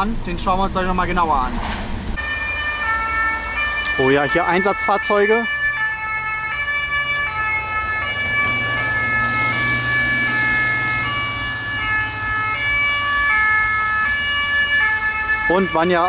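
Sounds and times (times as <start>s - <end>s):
two-tone emergency sirens: 2.2s - 16.0s.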